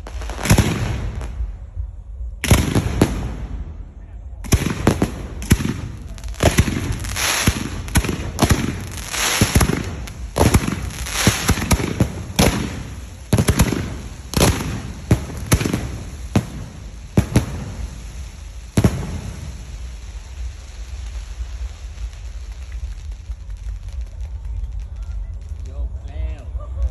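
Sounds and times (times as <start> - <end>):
fireworks banging: 0.0 - 26.9
fireworks crackling and hissing: 0.0 - 26.9.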